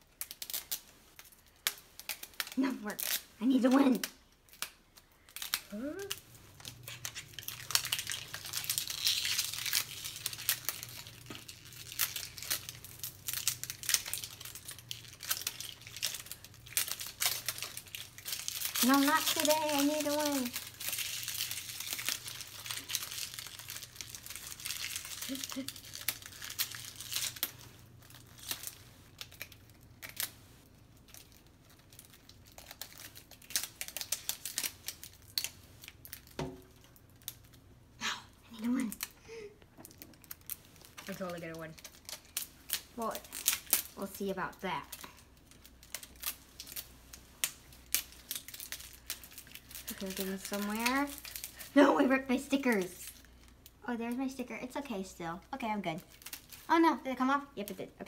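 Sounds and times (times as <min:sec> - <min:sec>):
plastic wrapping crinkling and tearing: 0:00.0 - 0:58.0.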